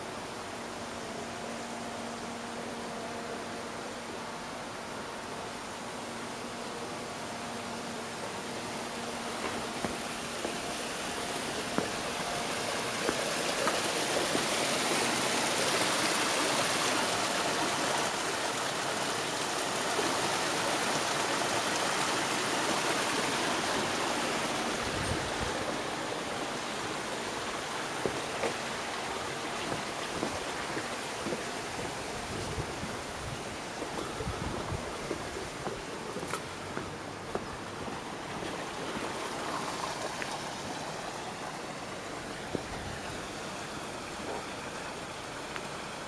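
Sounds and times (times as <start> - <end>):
water rushing and gurgling: 0.0 - 46.0.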